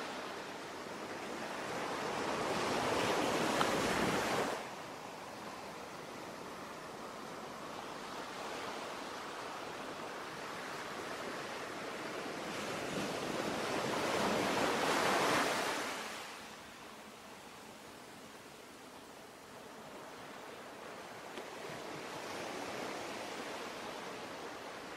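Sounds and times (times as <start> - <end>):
ocean surf waves: 0.0 - 24.9.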